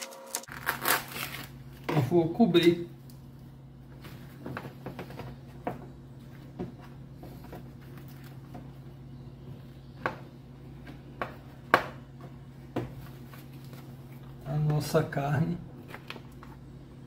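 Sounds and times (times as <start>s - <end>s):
steady low hum: 0.4s - 17.0s.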